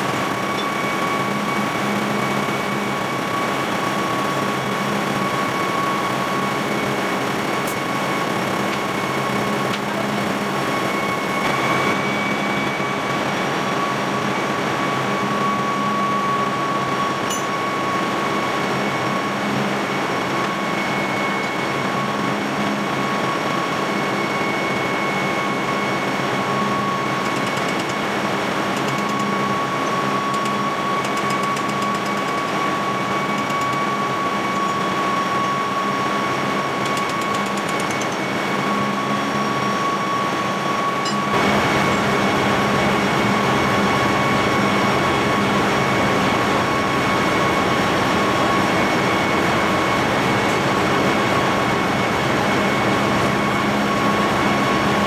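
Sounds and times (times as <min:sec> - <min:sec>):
engine room machinery drone: 0:00.0 - 0:55.0
high-pitched whine: 0:00.0 - 0:55.0.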